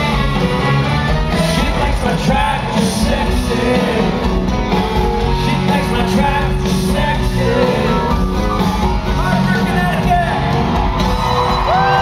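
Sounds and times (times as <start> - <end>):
live country band with vocals: 0.0 - 12.0.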